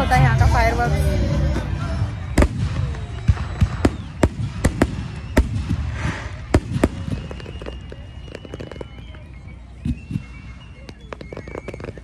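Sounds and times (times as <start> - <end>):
fireworks bangs: 2.2 - 12.0.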